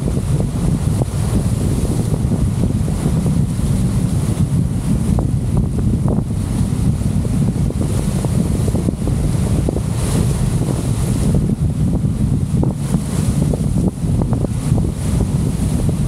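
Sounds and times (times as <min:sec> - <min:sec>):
choppy water splashing: 0:00.0 - 0:16.0
wind buffeting microphone: 0:00.0 - 0:16.0.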